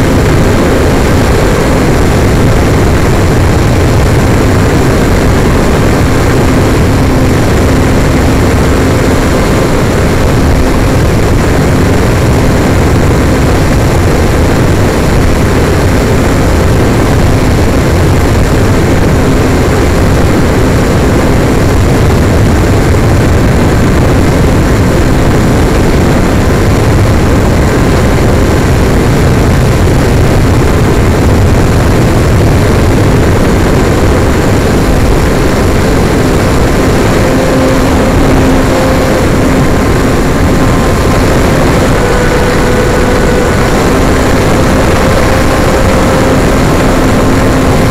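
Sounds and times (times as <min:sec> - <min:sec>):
model plane motor and propeller: 0:00.0 - 0:47.9
wind rush on microphone: 0:00.0 - 0:47.9.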